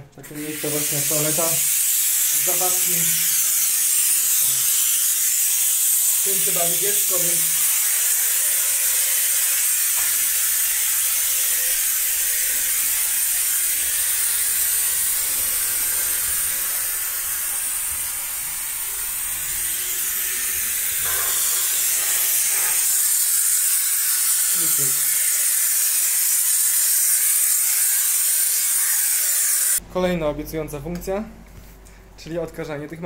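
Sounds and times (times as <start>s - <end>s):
steam cleaner hissing: 0.3s - 29.8s.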